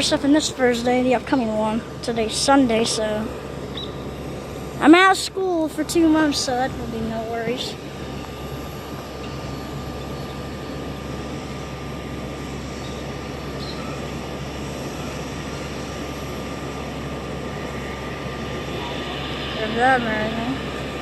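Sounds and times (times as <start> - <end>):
distant jet engines: 0.0 - 21.0.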